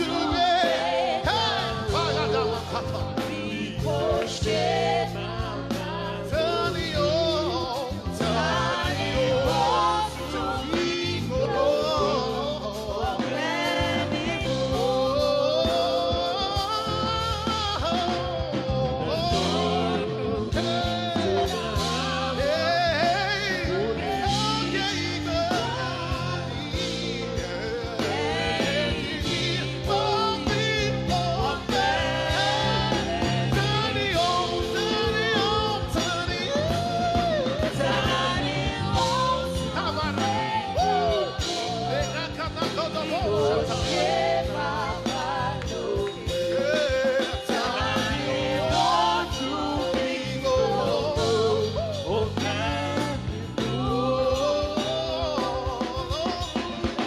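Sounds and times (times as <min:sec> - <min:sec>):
band playing: 0:00.0 - 0:57.0
bass line: 0:00.0 - 0:57.0
gospel singing voices: 0:00.0 - 0:57.0
keyboard: 0:00.0 - 0:57.0.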